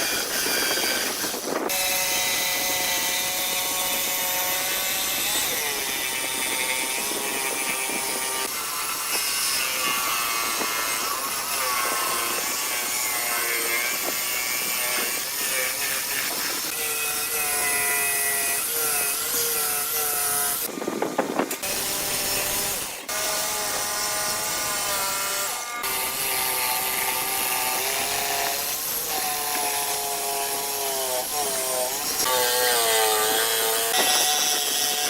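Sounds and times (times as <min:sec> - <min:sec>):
power tool motor whine: 0:00.0 - 0:35.0
rough cutting noise: 0:00.0 - 0:35.0.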